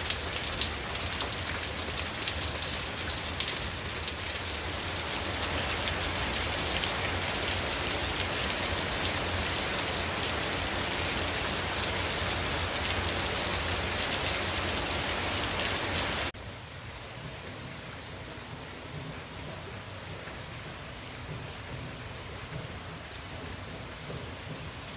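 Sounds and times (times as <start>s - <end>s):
steady rain pattering: 0.0s - 24.9s.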